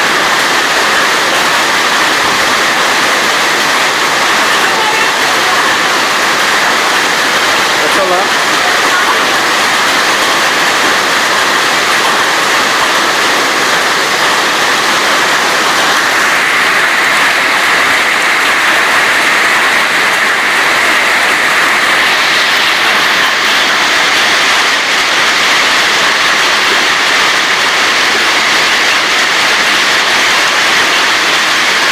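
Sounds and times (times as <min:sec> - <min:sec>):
hail and heavy rain falling: 0:00.0 - 0:31.9.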